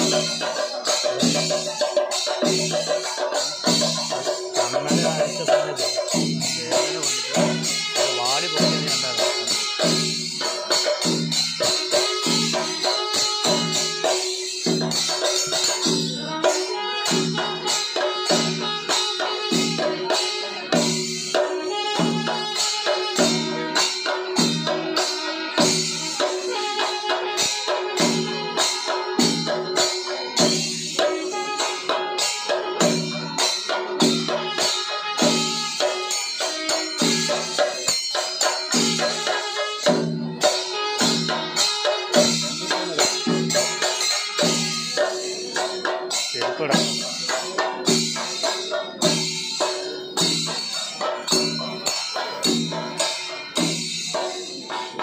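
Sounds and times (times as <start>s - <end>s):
drums beating fast: 0.0s - 55.0s
jingling cymbals: 0.0s - 55.0s.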